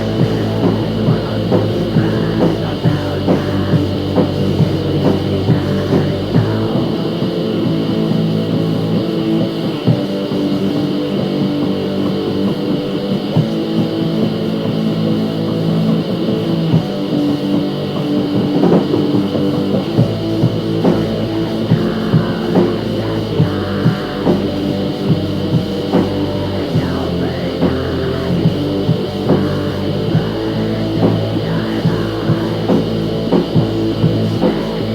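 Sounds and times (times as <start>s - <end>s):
rock music with guitar and drums: 0.0s - 34.9s.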